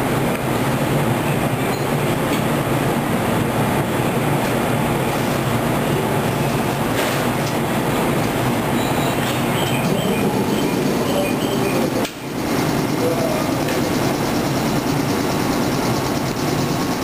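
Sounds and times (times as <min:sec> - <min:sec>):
electric train running noise: 0:00.0 - 0:17.0.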